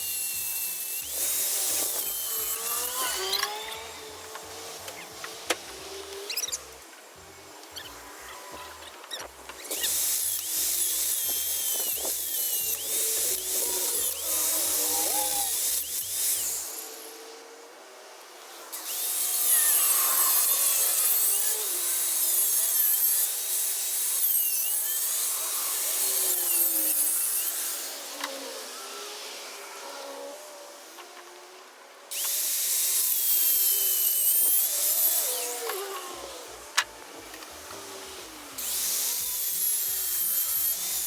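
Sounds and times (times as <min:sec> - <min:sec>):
power tool cutting steel: 0:00.0 - 0:17.4, 0:18.7 - 0:31.2, 0:32.1 - 0:41.0.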